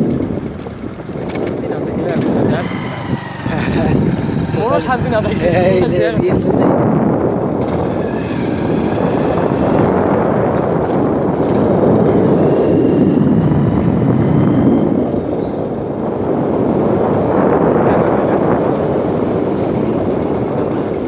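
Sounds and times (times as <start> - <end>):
road vehicle engine drone: 0.0 - 21.0.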